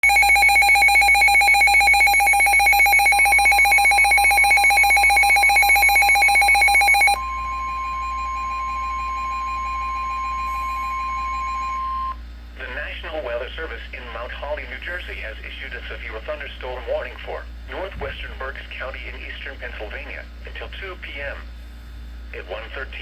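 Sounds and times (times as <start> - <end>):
steady warning tone: 0.0 - 21.5.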